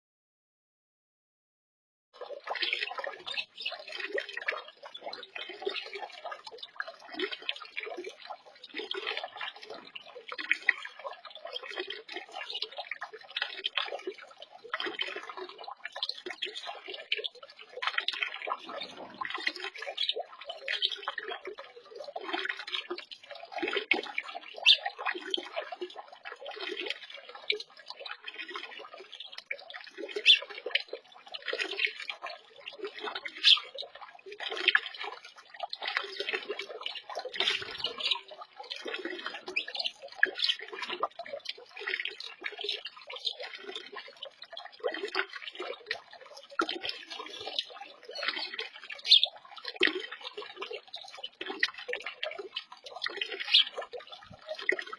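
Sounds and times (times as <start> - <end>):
birds splashing in water: 2.2 - 54.9.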